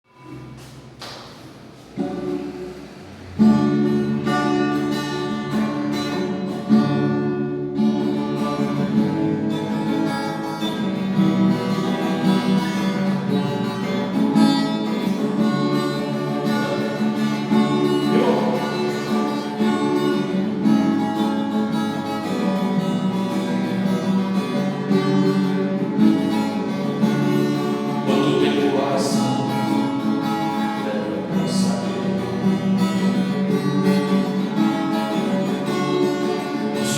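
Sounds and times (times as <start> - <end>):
acoustic guitar chords: 0.0 - 36.9.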